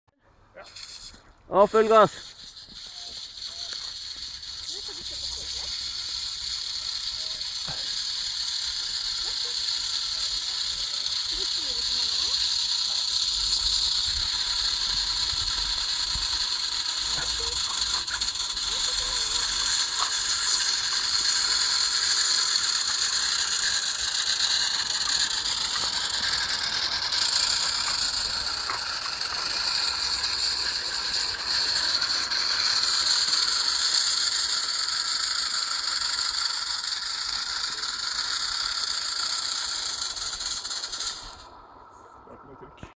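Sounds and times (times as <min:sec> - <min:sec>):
valve gear and wheels rattling: 0:00.6 - 0:42.1
steam hiss and exhaust: 0:00.7 - 0:42.5.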